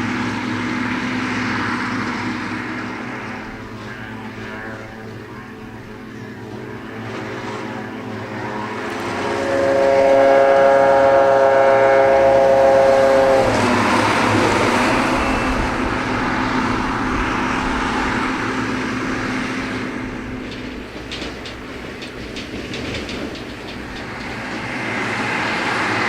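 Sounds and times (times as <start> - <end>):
machinery whine passing: 0.0 - 26.0
rushing engine and running gear: 0.0 - 26.0.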